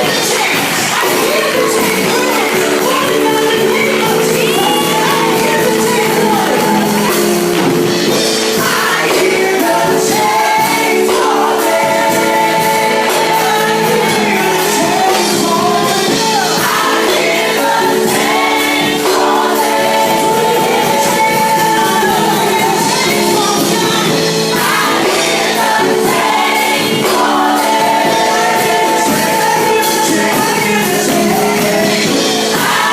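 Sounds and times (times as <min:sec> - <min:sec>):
people singing: 0:00.0 - 0:32.9
worship band playing chords: 0:00.0 - 0:32.9.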